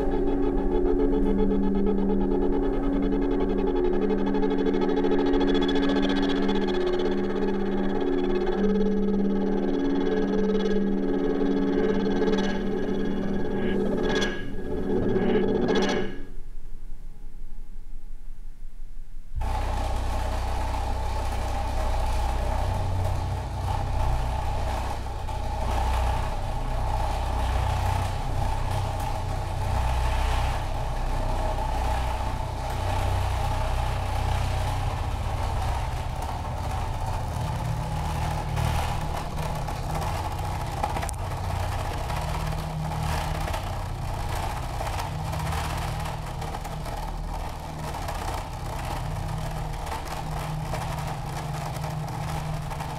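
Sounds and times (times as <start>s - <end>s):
electroacoustic low rumble drone: 0.0s - 52.9s.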